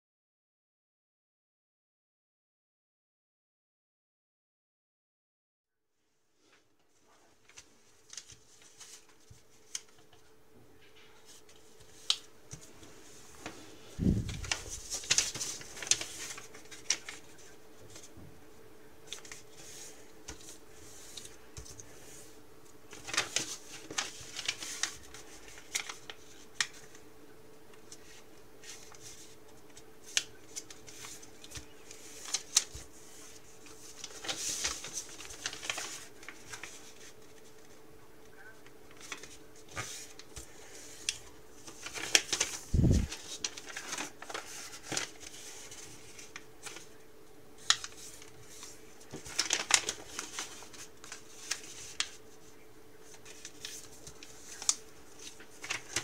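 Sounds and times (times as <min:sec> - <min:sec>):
faint steady hum: 0:05.8 - 0:56.0
paper folding and creasing: 0:06.9 - 0:10.2, 0:11.0 - 0:18.2, 0:19.0 - 0:27.0, 0:27.8 - 0:37.8, 0:38.6 - 0:47.0, 0:47.6 - 0:56.0.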